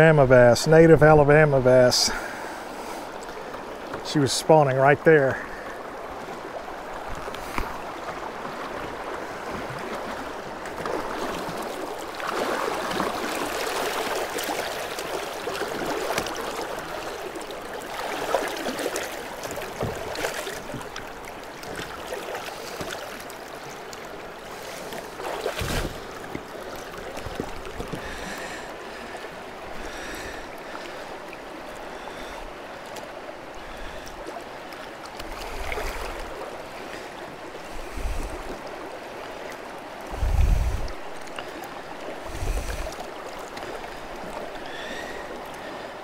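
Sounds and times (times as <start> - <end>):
stream water splashing and gurgling: 0.0 - 46.0.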